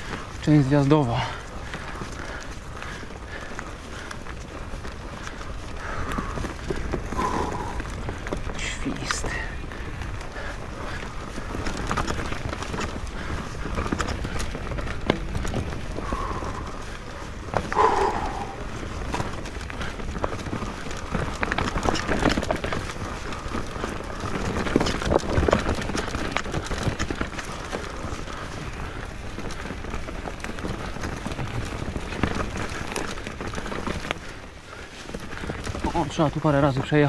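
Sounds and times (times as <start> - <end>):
bike chain and frame rattling: 0.0 - 37.0
bike tyres rolling over stones: 0.0 - 37.0.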